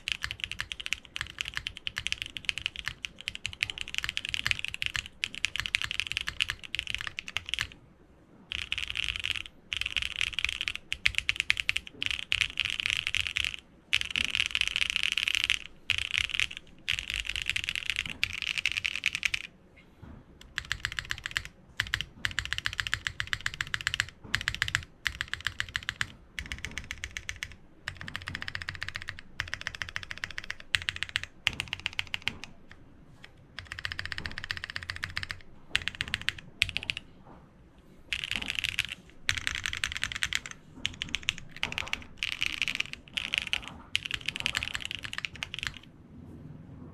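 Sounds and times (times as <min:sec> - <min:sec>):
fast mechanical keyboard typing: 0:00.0 - 0:07.8, 0:08.5 - 0:19.5, 0:20.4 - 0:37.1, 0:38.1 - 0:45.9.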